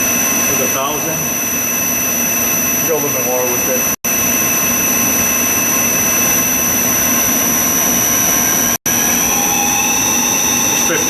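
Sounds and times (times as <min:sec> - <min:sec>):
drilling machine spindle whirring: 0:00.0 - 0:11.0
high whines: 0:00.0 - 0:11.0.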